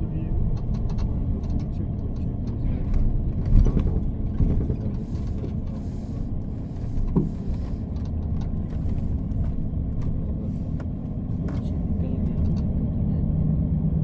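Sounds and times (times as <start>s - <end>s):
engine and road noise in cabin: 0.0s - 14.0s.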